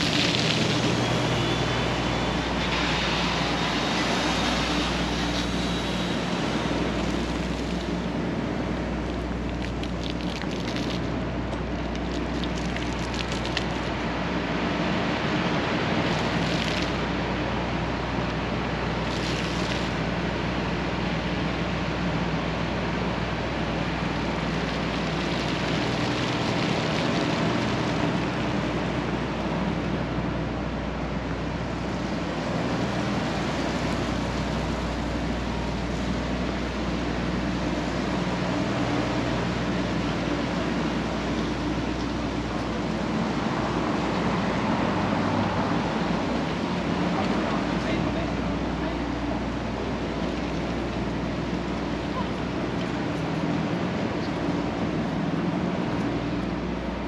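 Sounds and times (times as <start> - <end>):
city street traffic: 0.0 - 57.0.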